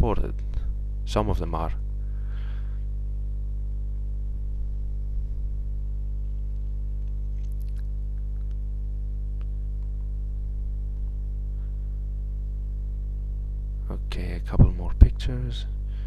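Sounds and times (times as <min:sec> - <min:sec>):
low buzzy electrical hum: 0:00.0 - 0:16.0.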